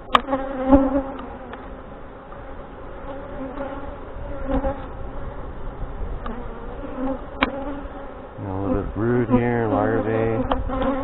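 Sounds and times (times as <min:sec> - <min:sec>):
honey bees buzzing: 0:00.0 - 0:11.0.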